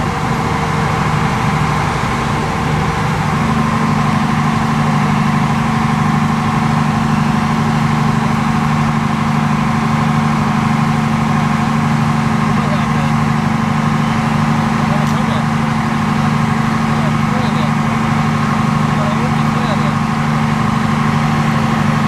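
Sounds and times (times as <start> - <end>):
fire engine running: 0.0 - 22.0.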